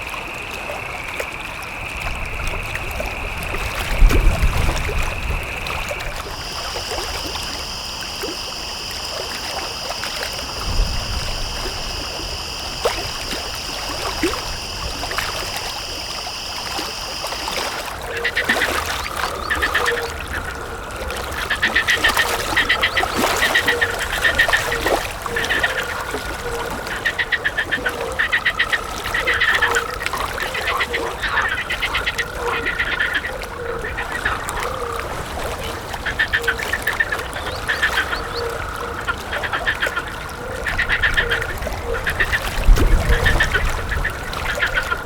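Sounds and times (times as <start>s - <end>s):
rapid pulsed animal calls: 4.9s - 45.0s.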